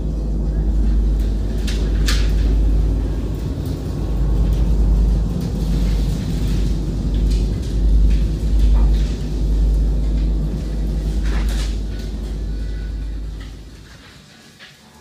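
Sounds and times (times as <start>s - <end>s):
steel hoops rolling on rollers: 0.0s - 15.0s.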